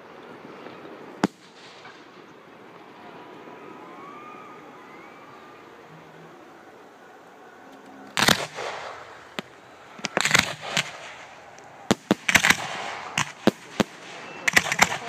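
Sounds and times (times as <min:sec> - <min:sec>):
fireworks crackling: 0:00.0 - 0:15.0
fireworks bangs: 0:00.6 - 0:06.6, 0:08.0 - 0:15.0.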